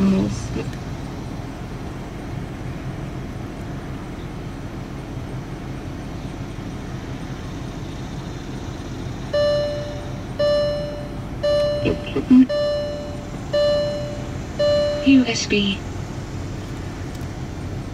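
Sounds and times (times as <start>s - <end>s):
low car rumble: 0.0s - 17.9s.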